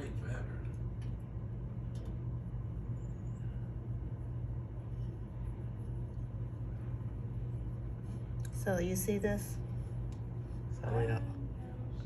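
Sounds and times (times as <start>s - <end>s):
low hum and rumble: 0.0s - 12.0s.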